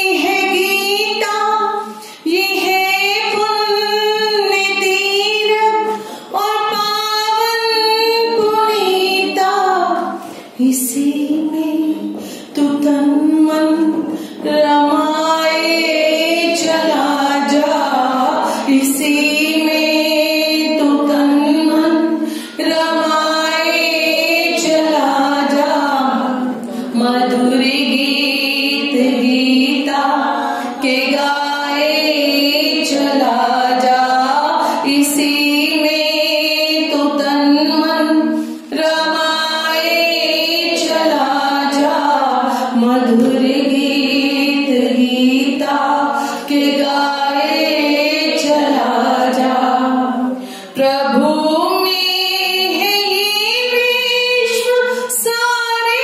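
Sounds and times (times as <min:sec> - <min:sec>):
woman singing devotional song: 0:00.0 - 0:56.0.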